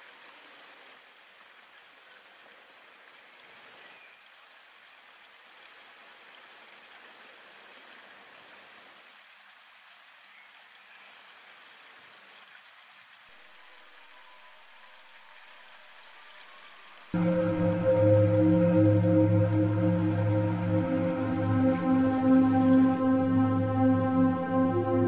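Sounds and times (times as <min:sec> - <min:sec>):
faint steady hiss: 0:00.0 - 0:25.0.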